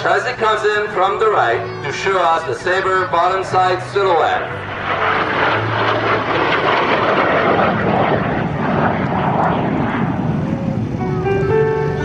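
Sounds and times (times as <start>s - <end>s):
jet engine flying past: 0.0s - 12.0s.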